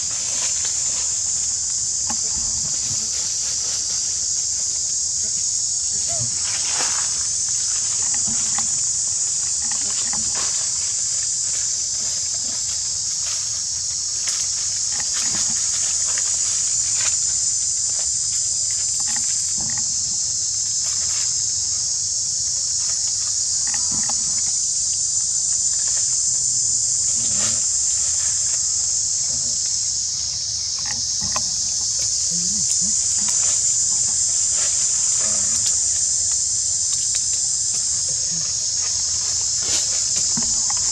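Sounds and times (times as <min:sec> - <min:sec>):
high-pitched insect drone: 0:00.0 - 0:40.9
rustles: 0:00.0 - 0:40.9.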